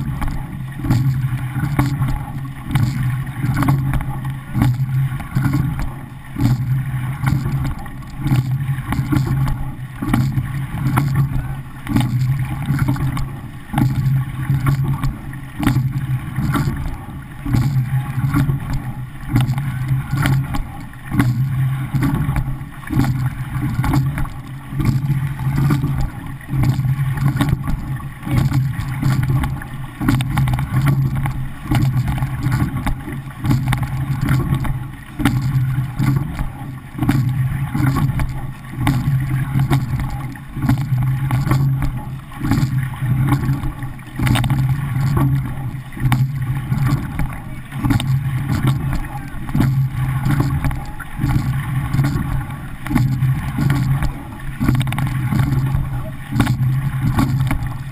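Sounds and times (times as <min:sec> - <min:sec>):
water rushing along boat hull: 0:00.0 - 0:57.9.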